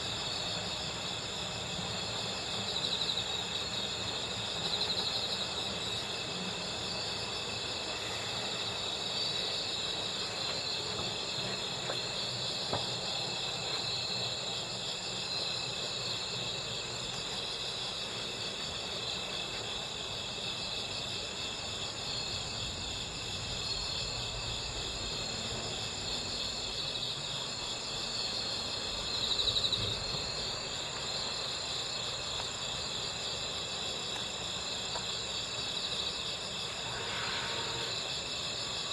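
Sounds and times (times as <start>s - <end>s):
crickets chorus: 0.0s - 38.9s.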